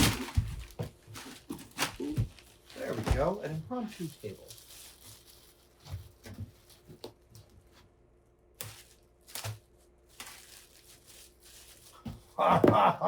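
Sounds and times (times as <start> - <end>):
packing material rustling: 0.0 - 7.5, 8.6 - 12.5.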